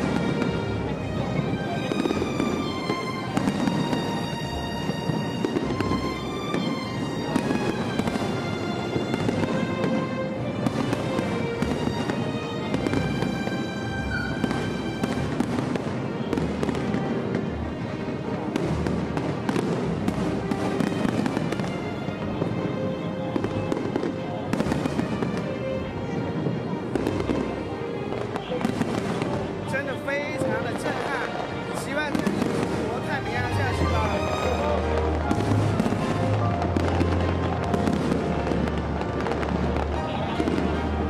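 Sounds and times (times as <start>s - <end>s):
fireworks bangs and crackles: 0.0s - 41.0s
music playing: 0.0s - 41.0s.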